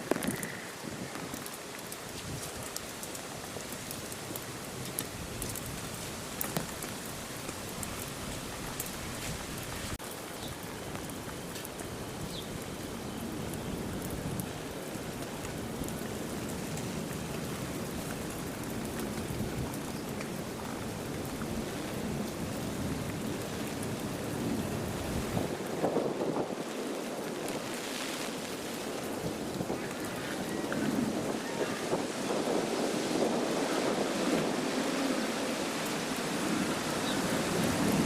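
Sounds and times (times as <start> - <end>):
raindrops ticking on surfaces: 0.0 - 38.0
steady rain hiss: 0.0 - 38.0.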